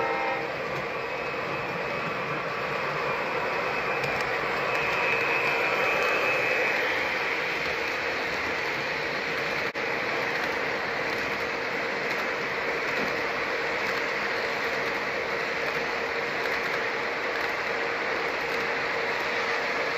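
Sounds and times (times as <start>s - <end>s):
locomotive whine: 0.0s - 19.9s.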